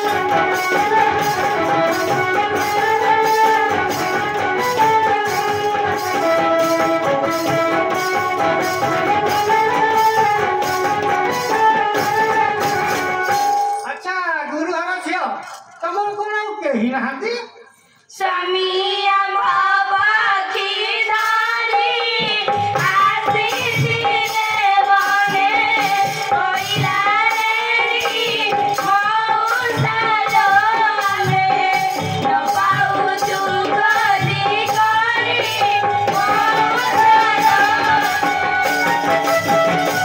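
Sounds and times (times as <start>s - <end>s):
drum beats: 0.0s - 16.3s, 20.0s - 40.0s.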